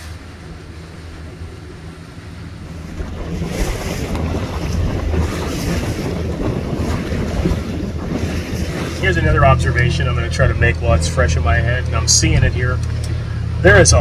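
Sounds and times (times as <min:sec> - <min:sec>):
boat motor humming: 0:00.0 - 0:14.0
water noise: 0:00.0 - 0:14.0
wind buffeting microphone: 0:00.0 - 0:14.0.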